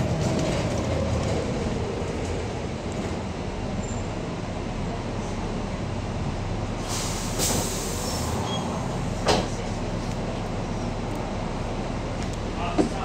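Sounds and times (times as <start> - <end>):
bus diesel engine idling: 1.5 - 13.0.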